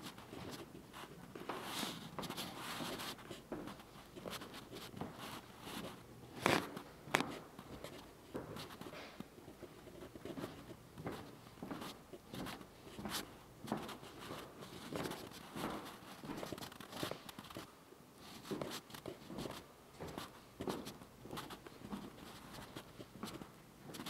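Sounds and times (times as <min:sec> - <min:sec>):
rubbing and handling noise: 0:00.0 - 0:24.0
footsteps on hardwood floor: 0:01.3 - 0:09.3, 0:10.1 - 0:17.6, 0:18.4 - 0:24.0.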